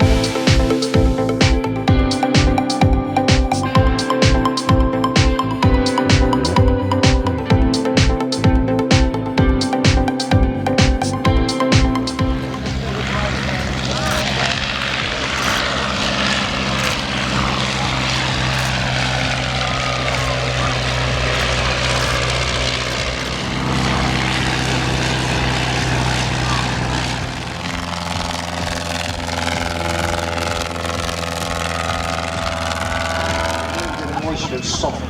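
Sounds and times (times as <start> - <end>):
propeller aircraft piston engine: 0.0 - 35.0.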